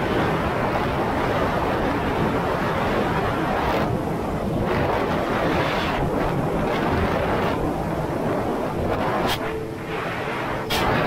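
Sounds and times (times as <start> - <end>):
jet ski engine: 0.0 - 11.0
rushing water: 0.0 - 11.0
wind buffeting microphone: 0.0 - 11.0.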